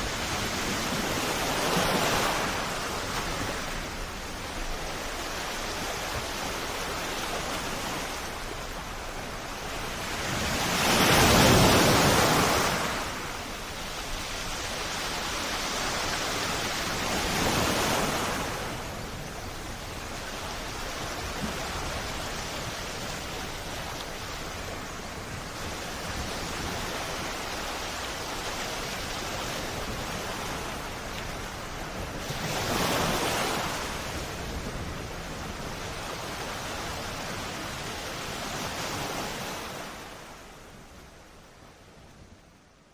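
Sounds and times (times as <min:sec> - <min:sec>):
waves breaking: 0:00.0 - 0:42.7.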